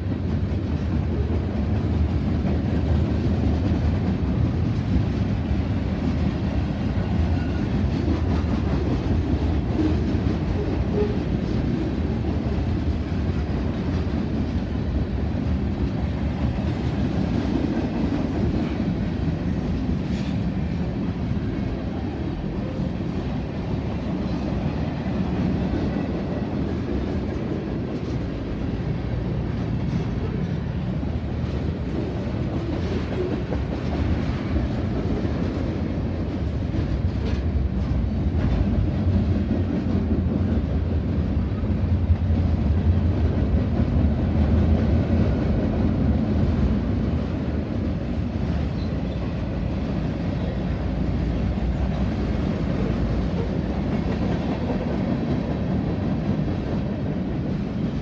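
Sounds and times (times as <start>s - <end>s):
clacks over rail joints: 0.0s - 47.3s
train wheels rumbling on rails: 0.0s - 58.0s.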